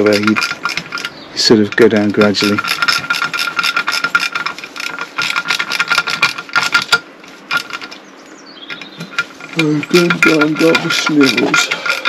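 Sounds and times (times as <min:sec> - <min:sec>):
ratchet clicking: 0:00.0 - 0:08.0, 0:08.6 - 0:12.0.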